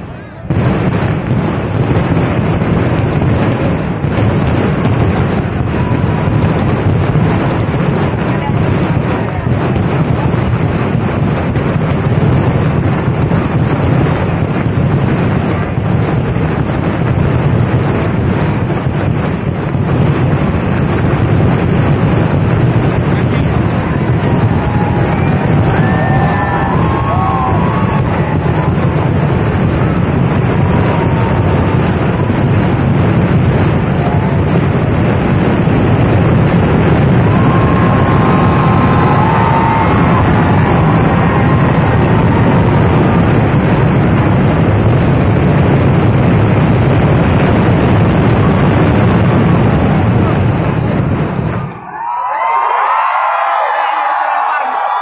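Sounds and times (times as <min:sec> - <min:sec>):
firecrackers going off: 0:00.0 - 0:55.0
fireworks rumble with crackling: 0:00.0 - 0:55.0.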